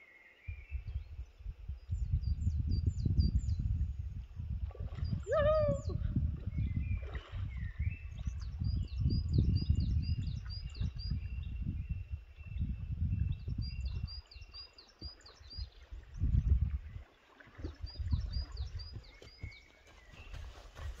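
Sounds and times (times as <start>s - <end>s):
small birds singing: 0.0s - 21.0s
wind buffeting microphone: 0.4s - 21.0s.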